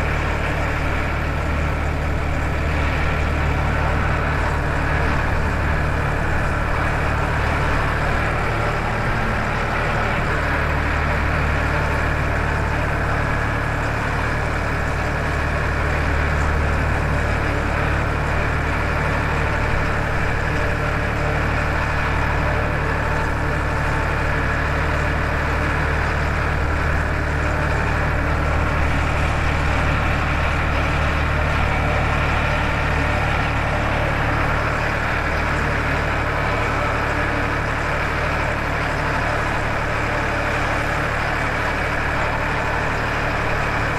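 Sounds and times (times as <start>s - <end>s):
tractor diesel engine drone: 0.0s - 43.9s.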